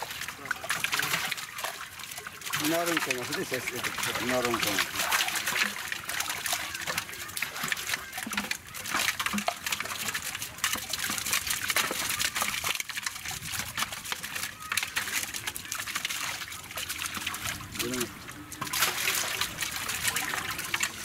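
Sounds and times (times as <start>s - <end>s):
small splashes and drips: 0.0s - 21.0s.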